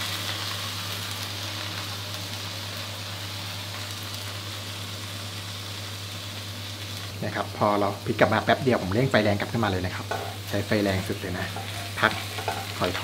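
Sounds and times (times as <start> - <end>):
pancake sizzling in oil: 0.0 - 13.0.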